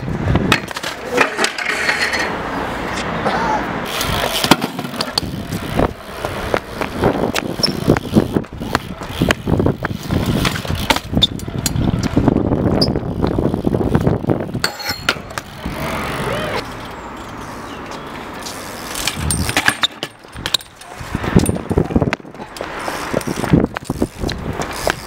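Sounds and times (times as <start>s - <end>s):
bike tyres rolling on concrete: 0.0s - 25.0s.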